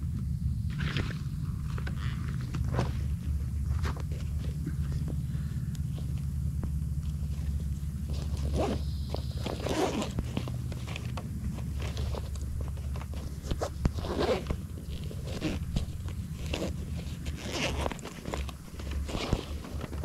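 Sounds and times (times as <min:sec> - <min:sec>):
low rumble: 0:00.0 - 0:20.0
footsteps crunching on forest ground: 0:00.7 - 0:20.0.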